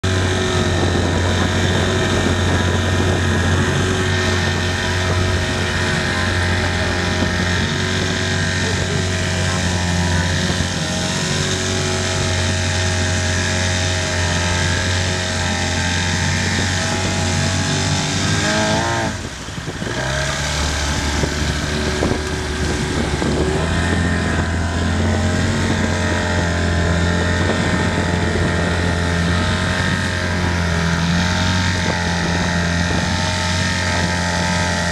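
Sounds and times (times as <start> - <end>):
motorboat engine running: 0.0 - 34.9.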